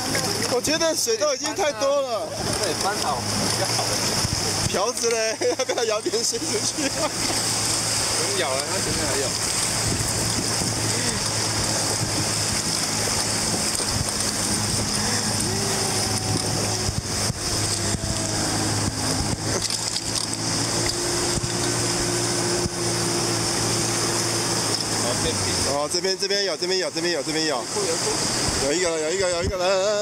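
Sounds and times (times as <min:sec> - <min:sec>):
river rapids rushing: 0:00.0 - 0:29.4.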